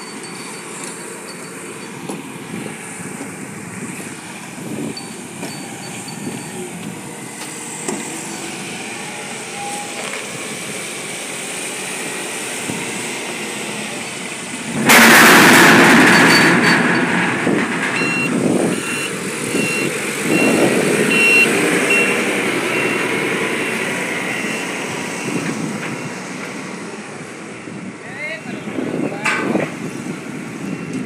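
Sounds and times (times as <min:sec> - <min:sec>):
forklift engine revving: 0:01.8 - 0:27.8.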